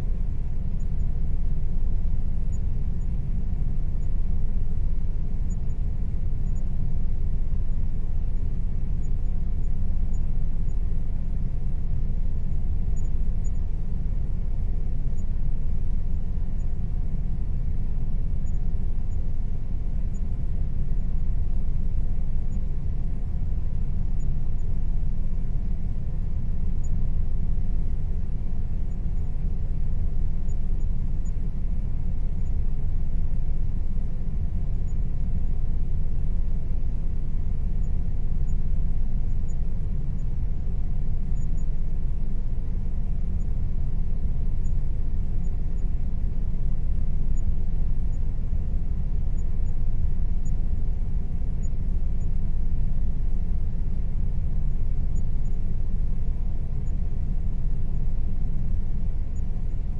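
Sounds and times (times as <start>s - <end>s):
air conditioner hum: 0.0s - 59.9s
faint steady whine: 0.0s - 59.9s.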